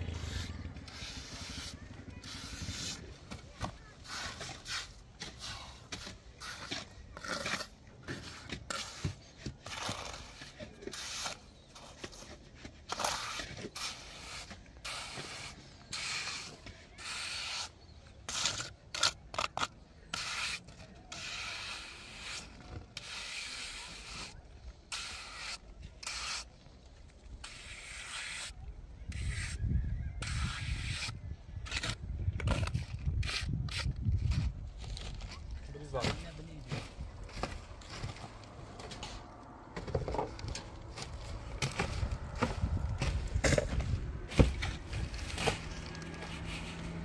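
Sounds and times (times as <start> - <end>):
trowel scraping wet concrete: 0.0 - 29.6, 30.2 - 47.0.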